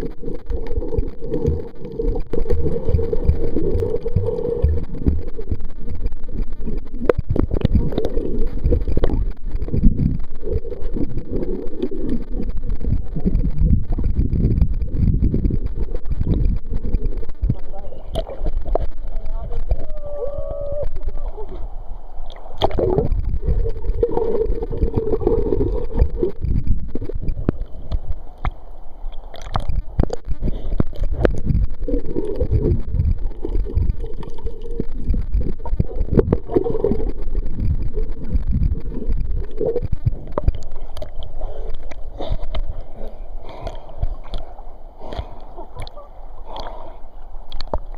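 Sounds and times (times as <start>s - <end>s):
heavy low rumble: 0.0s - 46.5s
water sloshing and gurgling: 0.0s - 47.9s.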